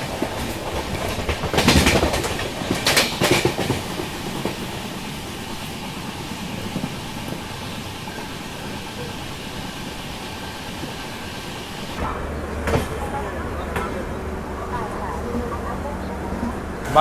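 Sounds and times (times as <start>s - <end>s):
train rolling rumble: 0.0s - 17.0s
wheels clattering over rail joints: 0.0s - 17.0s.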